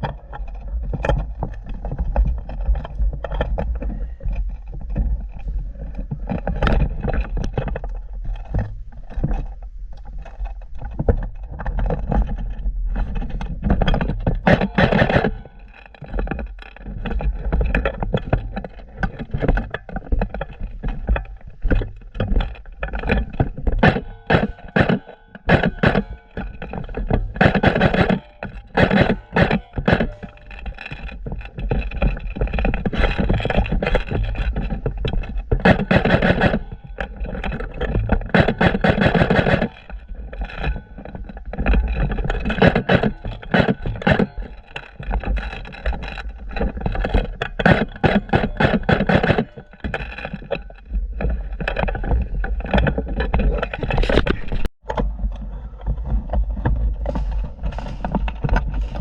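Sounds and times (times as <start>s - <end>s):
handling knocks and scrapes: 0.0s - 59.0s.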